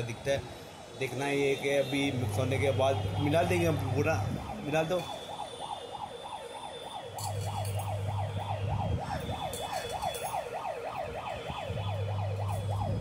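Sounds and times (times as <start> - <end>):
yelping siren: 1.8 - 13.0.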